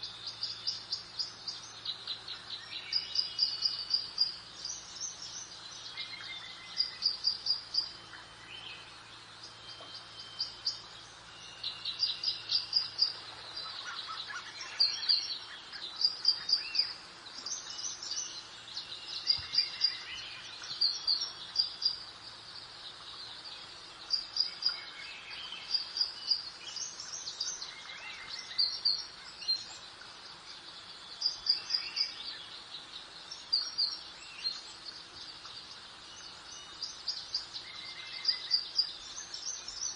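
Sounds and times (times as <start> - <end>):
birds chirping: 0.0 - 39.9
faint steady hiss: 0.0 - 39.9.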